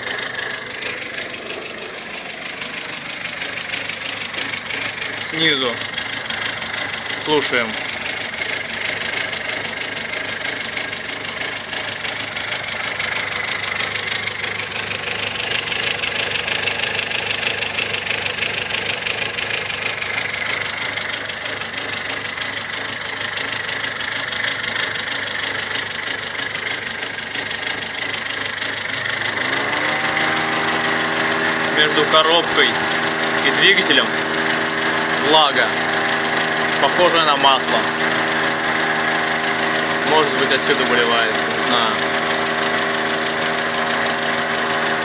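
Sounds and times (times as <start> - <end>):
car engine idling with ticking: 0.0 - 45.0.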